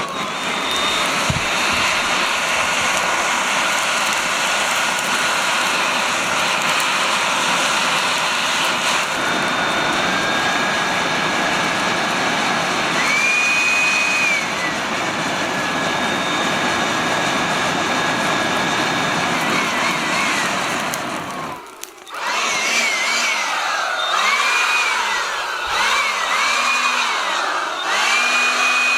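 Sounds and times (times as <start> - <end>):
cordless blower running: 0.0 - 28.9.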